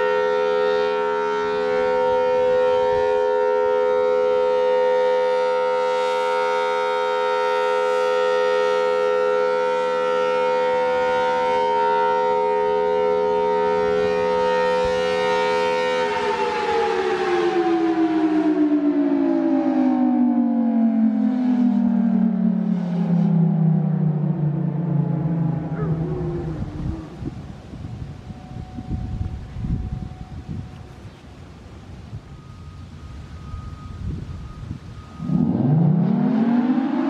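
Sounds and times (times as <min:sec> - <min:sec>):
warning siren two-note chord: 0:00.0 - 0:37.0.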